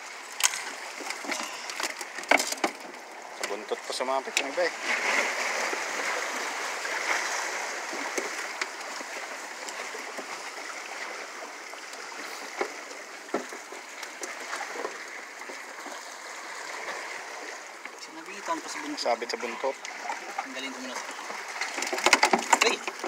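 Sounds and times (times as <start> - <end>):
small waves splashing on rocks: 0.0 - 23.0.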